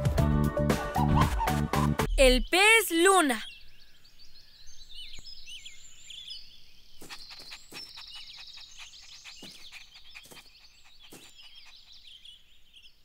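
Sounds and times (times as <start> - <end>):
birds chirping and trilling: 2.1 - 13.0.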